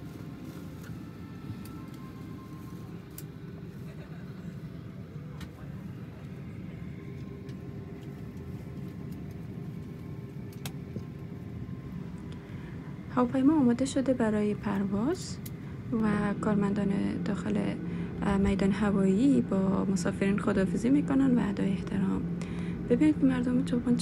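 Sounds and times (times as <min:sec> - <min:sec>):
airliner cabin rumble: 0:00.0 - 0:24.0
faint passenger voices: 0:00.0 - 0:24.0.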